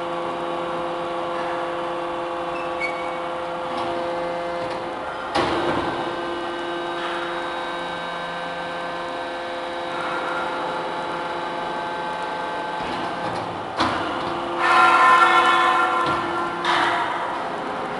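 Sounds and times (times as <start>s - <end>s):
motor and pump whine: 0.0s - 17.9s.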